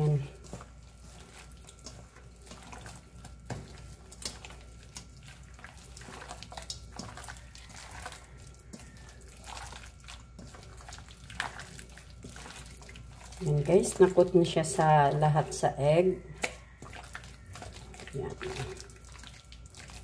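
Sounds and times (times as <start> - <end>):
hands squelching chicken in egg: 0.0 - 20.0.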